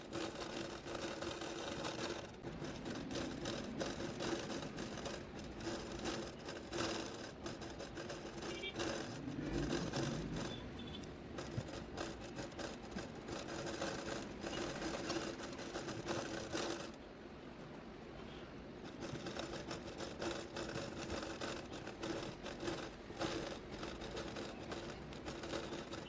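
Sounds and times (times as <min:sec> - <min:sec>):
needle and thread through fabric: 0:00.0 - 0:17.0, 0:18.8 - 0:26.0.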